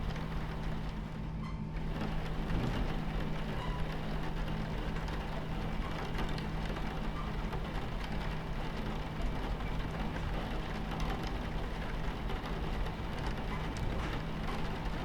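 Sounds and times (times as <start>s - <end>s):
rain on a train window: 0.0s - 15.0s
train rumbling and humming: 0.0s - 15.0s.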